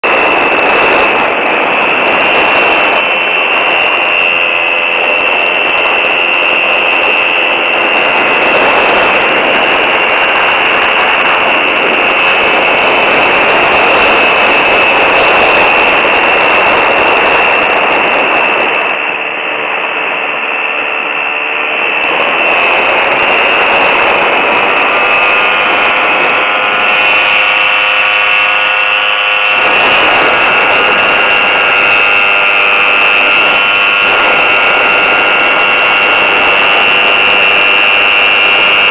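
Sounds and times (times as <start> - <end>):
wind rushing: 0.0 - 37.2
engine drone in flight: 0.0 - 38.9.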